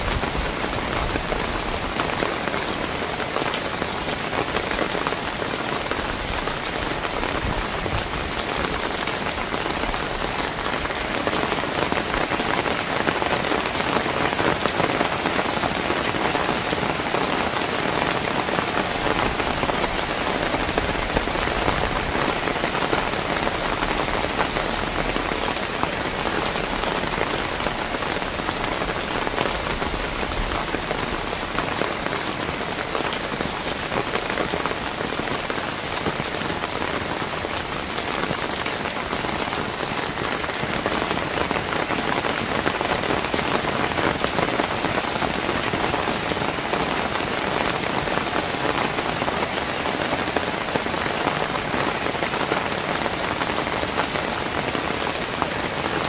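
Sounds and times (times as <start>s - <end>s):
steady rain on pavement: 0.0s - 56.0s.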